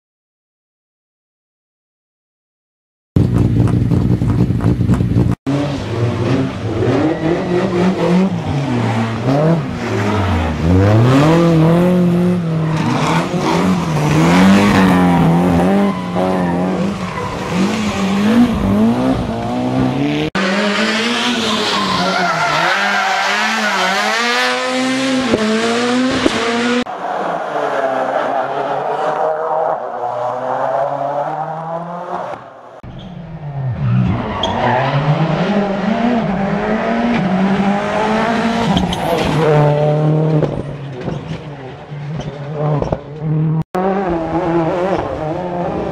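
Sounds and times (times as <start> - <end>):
rally car engines revving: 3.2 - 45.9.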